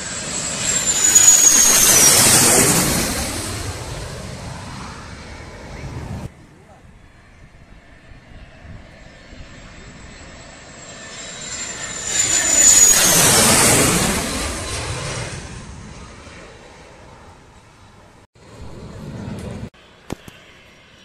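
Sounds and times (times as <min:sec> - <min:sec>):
fighter jet passing overhead: 0:00.0 - 0:21.0.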